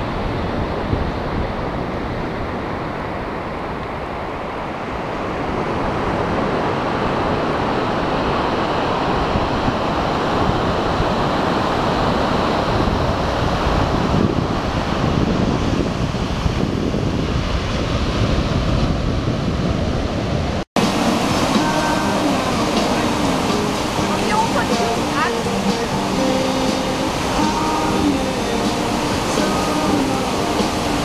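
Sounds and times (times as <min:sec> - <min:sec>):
wind buffeting microphone: 0:00.0 - 0:26.0
surf breaking on beach: 0:00.0 - 0:31.0.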